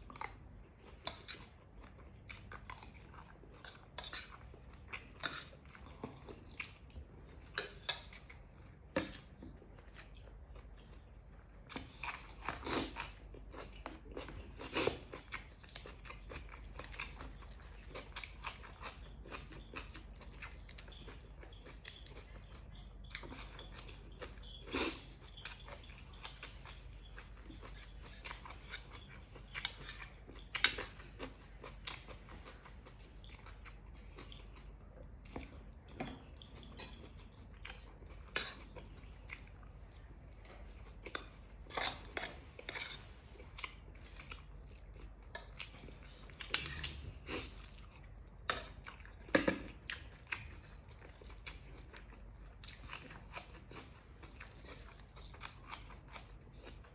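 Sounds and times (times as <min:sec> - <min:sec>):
low steady hum: 0:00.0 - 0:56.9
person chewing crunchy food: 0:00.0 - 0:56.9.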